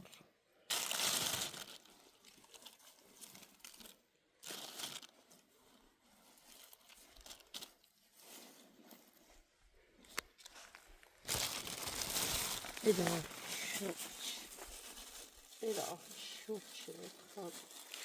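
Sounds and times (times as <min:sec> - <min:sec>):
faint rustling and crinkling: 0:00.0 - 0:18.0.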